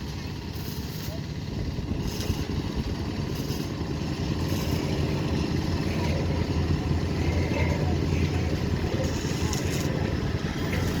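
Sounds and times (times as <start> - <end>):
heavy machine engine droning: 0.0 - 11.0.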